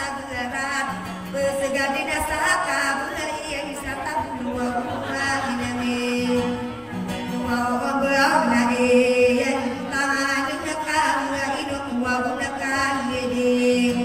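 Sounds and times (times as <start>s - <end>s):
small guitar: 0.0s - 14.0s.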